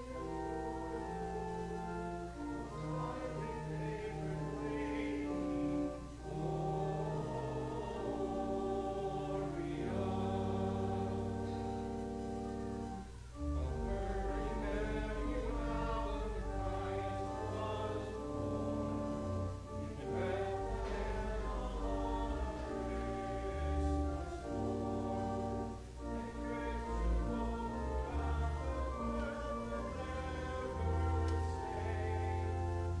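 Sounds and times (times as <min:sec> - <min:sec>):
church organ playing chords: 0:00.0 - 0:33.0
congregation singing: 0:00.0 - 0:33.0.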